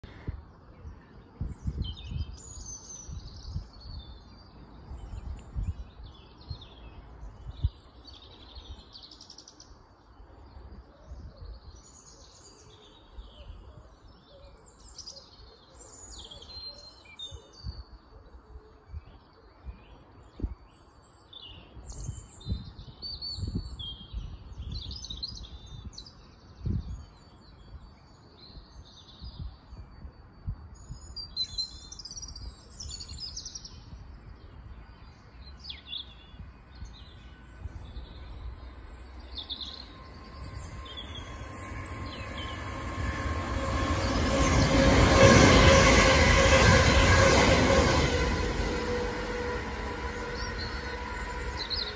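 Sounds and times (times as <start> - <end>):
songbirds singing and chirping: 0.0 - 51.9.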